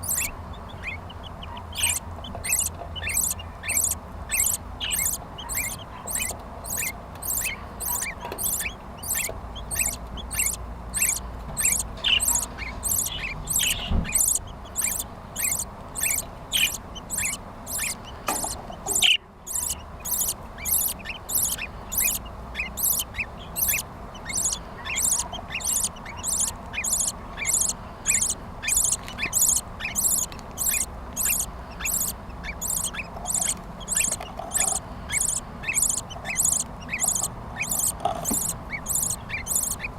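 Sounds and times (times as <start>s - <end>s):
high-pitched squeaks: 0.0s - 0.3s, 1.8s - 39.8s
budgerigars chirping: 0.0s - 39.9s.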